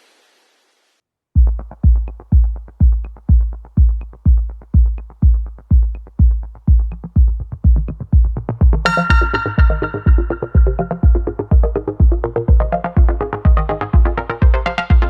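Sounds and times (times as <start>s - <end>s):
heavy kick drum: 1.4s - 15.0s
synth chords: 1.4s - 15.0s.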